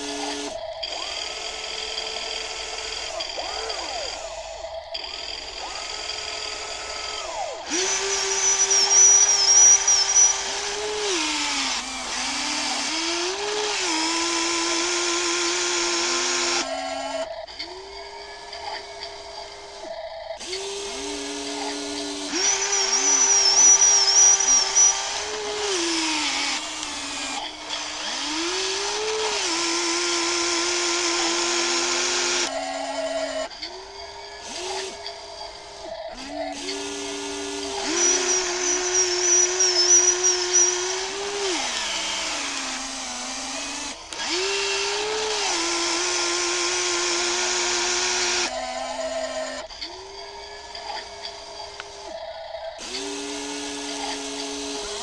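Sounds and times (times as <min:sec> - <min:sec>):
toy excavator electric motors whining: 0:00.0 - 0:55.0.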